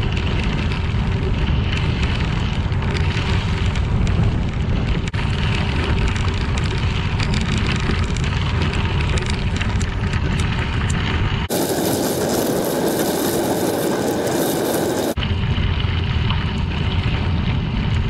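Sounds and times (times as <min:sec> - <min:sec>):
tyres crackling on gravel: 0:00.0 - 0:15.2
wind rumble on microphone: 0:00.0 - 0:18.0.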